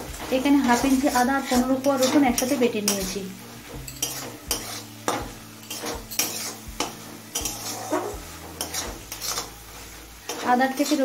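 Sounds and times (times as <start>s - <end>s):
metal spatula scraping a pan: 0.0s - 11.0s.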